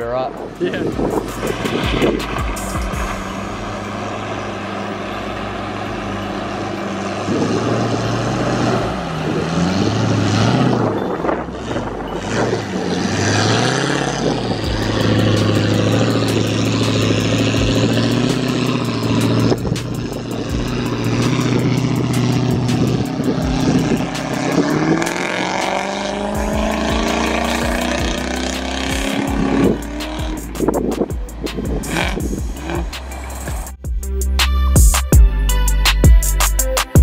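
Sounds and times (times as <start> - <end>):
truck engine revving: 0.0 - 37.0.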